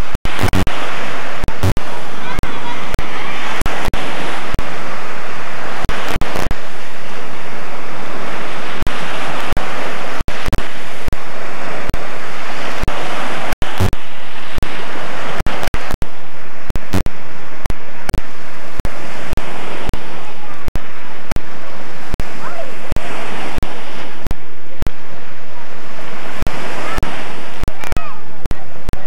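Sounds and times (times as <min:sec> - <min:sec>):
waves washing onto beach: 0:00.0 - 0:29.0.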